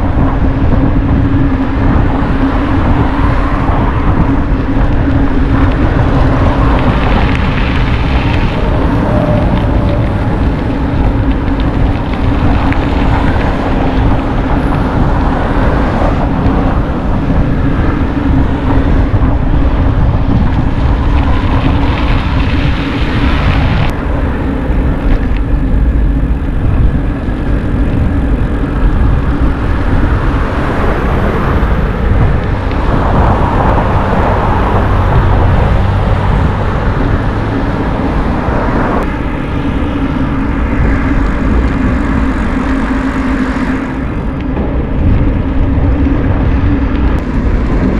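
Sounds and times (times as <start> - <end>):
road noise: 0.0 - 47.9
wind rumble on microphone: 0.0 - 47.9.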